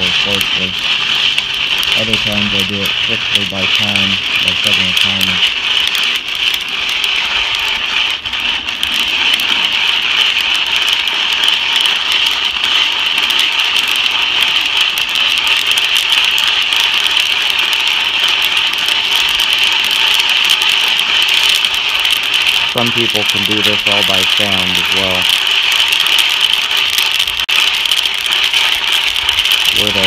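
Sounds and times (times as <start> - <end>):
coffee beans rattling in popper: 0.0 - 30.0
constant hiss: 0.0 - 30.0.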